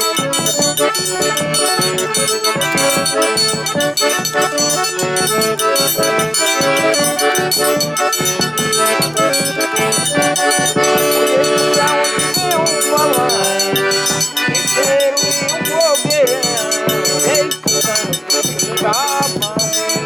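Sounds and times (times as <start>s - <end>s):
accordion melody: 0.0s - 20.0s
percussion beat: 0.0s - 20.0s.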